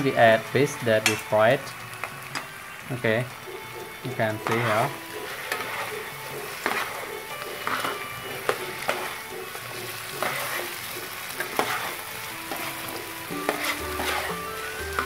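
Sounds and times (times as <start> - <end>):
fish sizzling in a frying pan: 0.0 - 15.0
metal spatula scraping a pan: 0.0 - 15.0.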